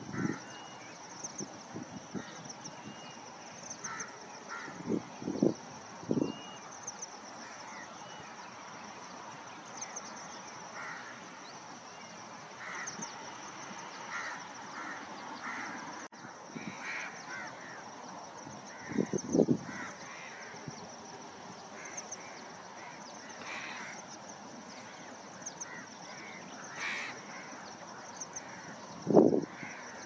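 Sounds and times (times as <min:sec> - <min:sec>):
loud low bird calls: 0:00.0 - 0:30.0.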